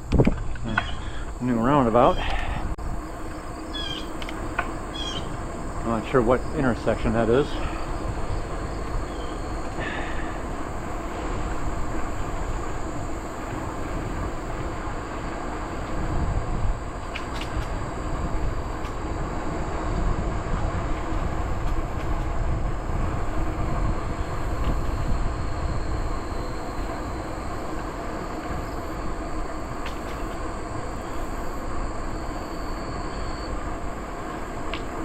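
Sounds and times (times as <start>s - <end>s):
bicycle tyre rumble: 0.0s - 35.0s
wind on microphone: 0.0s - 35.0s.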